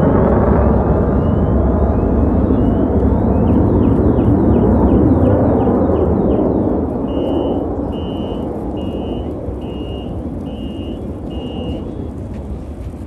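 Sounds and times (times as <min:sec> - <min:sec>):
jet roar: 0:00.0 - 0:13.0
reversing alarm beeps: 0:01.1 - 0:12.2.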